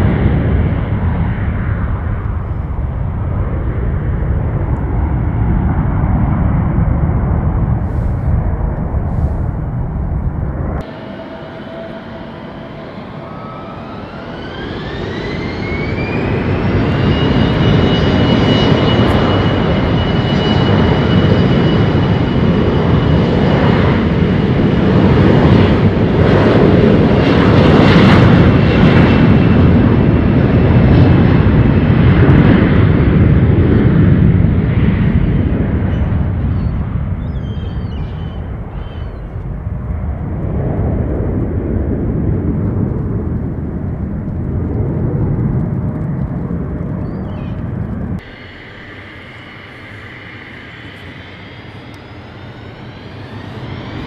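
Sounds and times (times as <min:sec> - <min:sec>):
jet engines whining: 0:00.0 - 0:54.0
loud rumble: 0:00.0 - 0:54.0.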